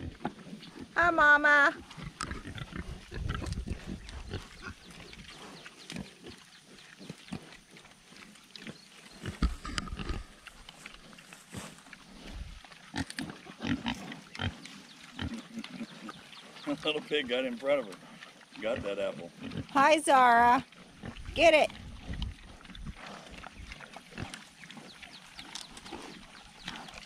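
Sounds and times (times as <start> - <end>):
pigs crunching and chewing: 0.0 - 27.0
pigs grunting: 0.0 - 27.0.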